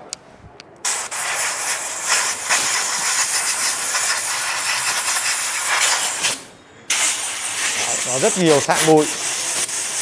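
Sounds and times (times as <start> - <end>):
loud hissing air jet: 0.9 - 10.0.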